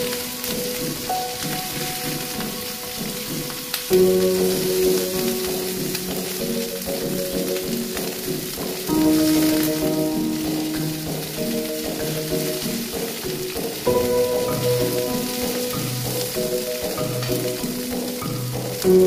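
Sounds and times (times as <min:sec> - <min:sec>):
background music of held chords: 0:00.0 - 0:19.0
shrimp sizzling in a frying pan: 0:00.0 - 0:19.0.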